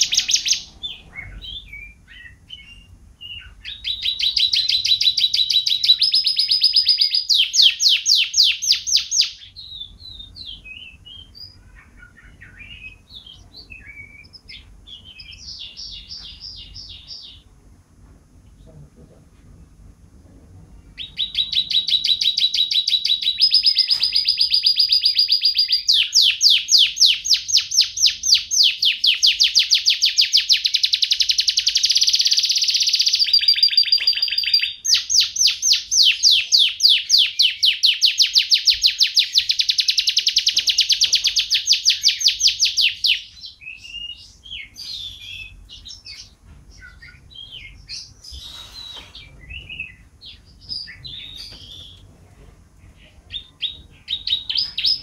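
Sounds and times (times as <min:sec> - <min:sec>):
canary singing trills: 0:00.0 - 0:17.6, 0:20.8 - 0:52.1, 0:52.8 - 0:55.0.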